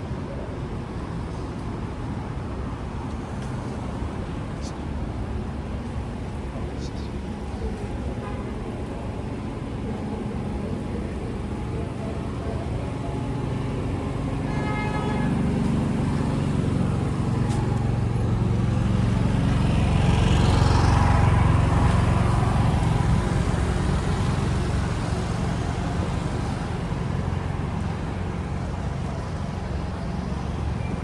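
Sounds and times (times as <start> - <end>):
street traffic rumbling: 0.0 - 31.0
heavy vehicle passing: 3.6 - 31.0.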